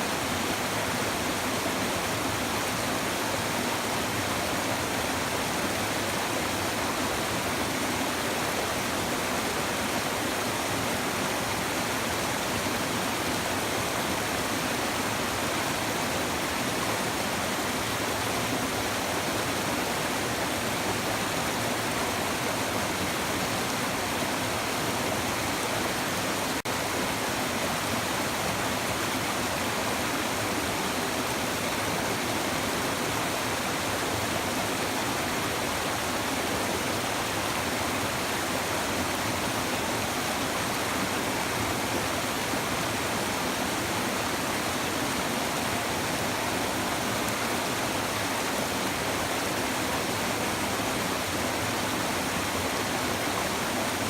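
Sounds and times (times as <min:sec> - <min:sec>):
river water running over stones: 0:00.0 - 0:54.0.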